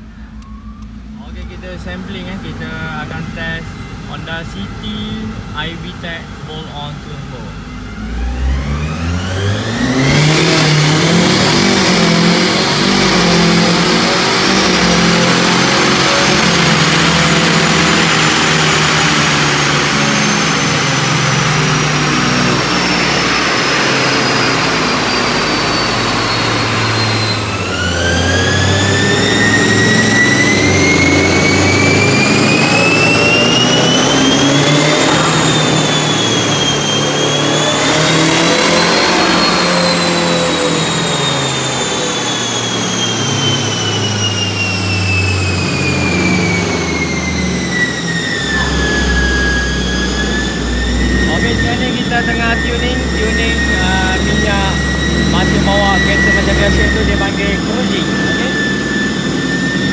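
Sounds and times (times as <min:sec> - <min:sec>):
high turbo whine: 0:00.0 - 0:59.9
turbocharged car engine under load: 0:00.0 - 0:59.9.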